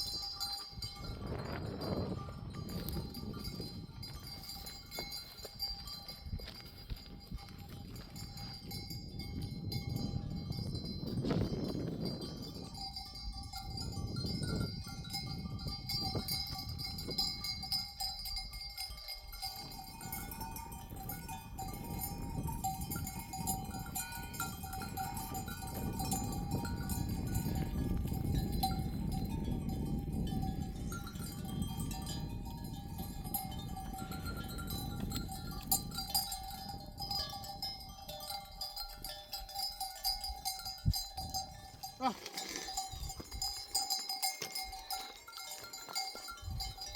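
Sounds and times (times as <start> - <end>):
animal bells ringing and clinking: 0.0 - 46.9.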